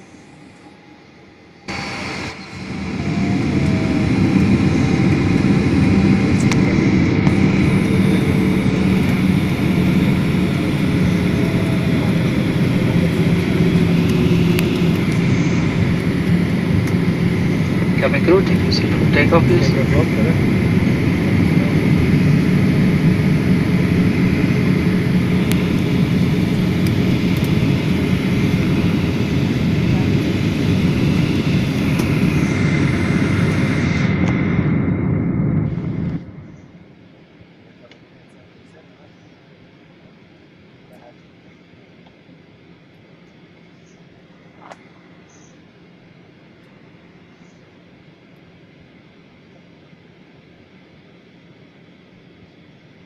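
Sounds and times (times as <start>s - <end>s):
jet engines hum from cabin: 0.0s - 53.0s.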